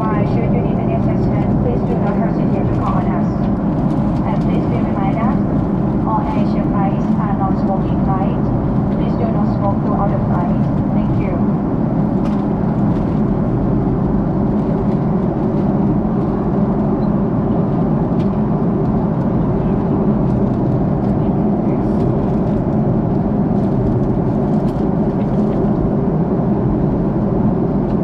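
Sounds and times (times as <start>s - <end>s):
aircraft cabin engine noise: 0.0s - 28.0s.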